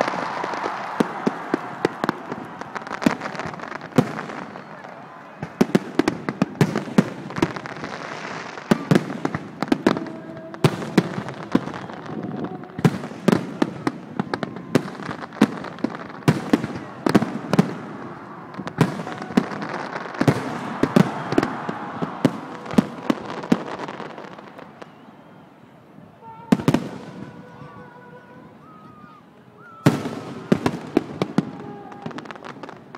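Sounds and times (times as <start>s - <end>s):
fireworks bangs: 0.0s - 32.9s
fireworks crackle and rumble: 0.0s - 32.9s.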